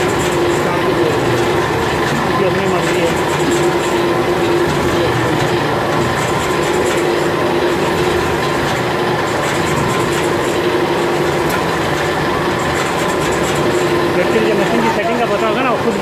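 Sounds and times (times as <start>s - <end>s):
stone polishing machine running: 0.0s - 16.0s.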